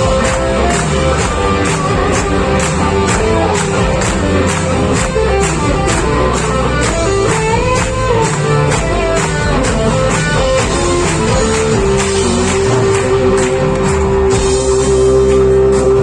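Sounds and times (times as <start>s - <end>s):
steady drum beat: 0.0s - 15.3s
bass guitar: 0.0s - 16.0s
electric guitar line: 0.0s - 16.0s.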